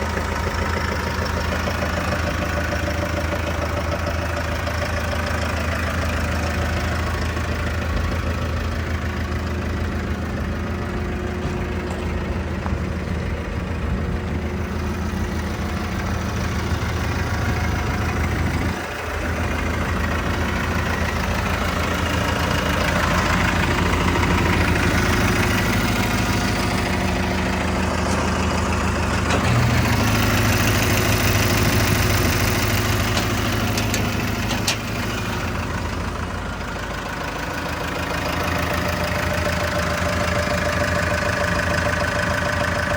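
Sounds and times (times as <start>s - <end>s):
wood chipper diesel engine idling: 0.0s - 42.9s.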